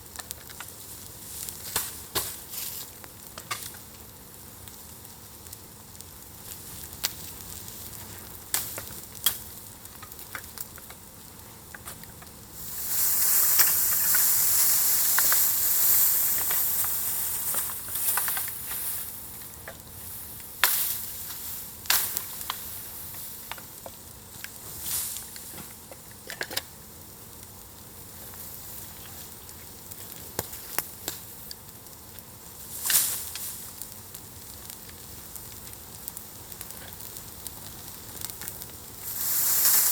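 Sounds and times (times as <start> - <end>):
bonfire crackling and popping: 0.0 - 39.9
fire flaring with loud hiss: 0.0 - 39.9.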